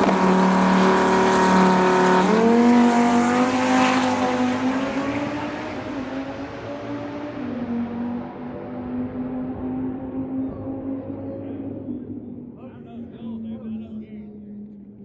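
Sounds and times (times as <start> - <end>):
drag car engine at full throttle: 0.0 - 15.0.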